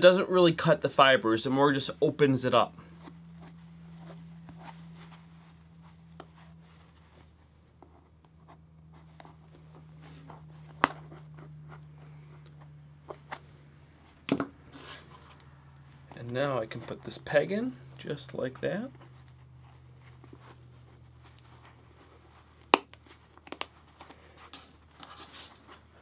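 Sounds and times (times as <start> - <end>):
steady low hum: 0.0 - 26.0
scratching and rustling of fur: 2.9 - 13.5, 14.7 - 26.0.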